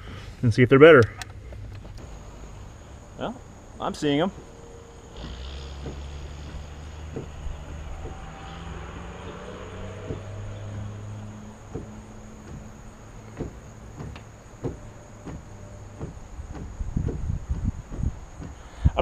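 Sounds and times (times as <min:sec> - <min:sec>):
low hum: 0:01.2 - 0:19.0
high insect drone: 0:01.5 - 0:19.0.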